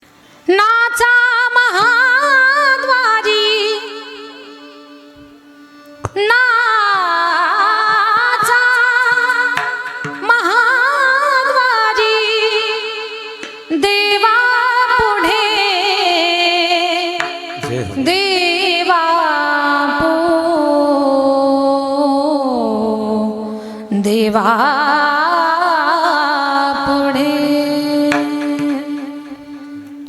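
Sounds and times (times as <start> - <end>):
woman singing devotional song: 0.4 - 30.0.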